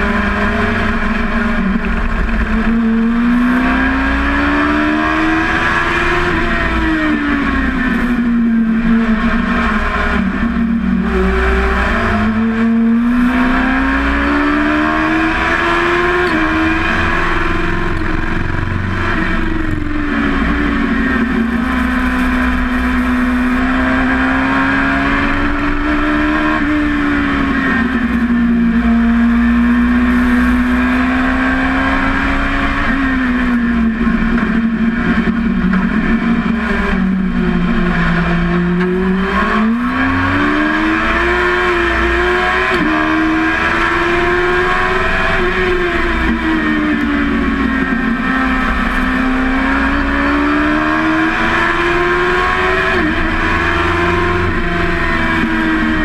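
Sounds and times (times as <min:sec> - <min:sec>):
race car engine accelerating: 0:00.0 - 0:56.0
wind and road noise: 0:00.0 - 0:56.0.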